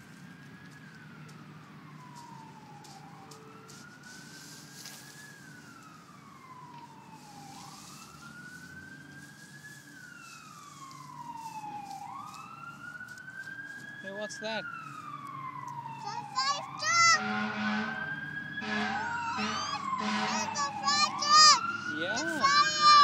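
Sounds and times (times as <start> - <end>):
emergency vehicle siren wailing: 0.0 - 23.0.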